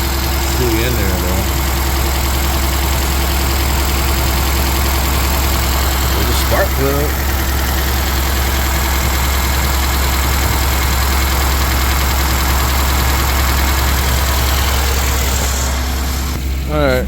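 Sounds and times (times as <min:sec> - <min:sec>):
car engine idling with misfire: 0:00.0 - 0:17.0.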